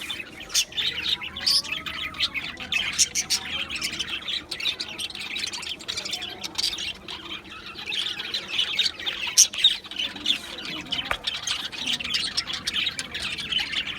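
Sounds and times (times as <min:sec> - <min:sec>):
flock of birds chattering: 0:00.0 - 0:13.9.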